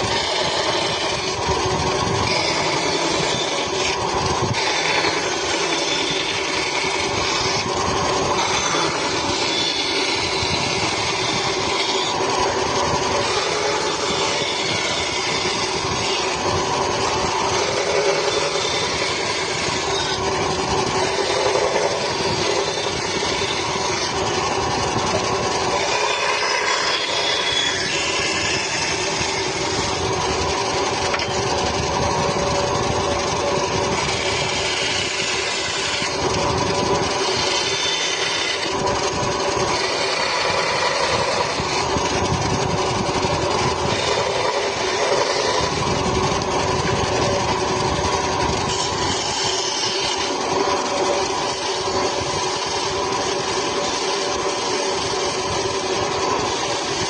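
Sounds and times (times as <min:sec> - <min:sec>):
power tool motor working wood: 0:00.0 - 0:57.0.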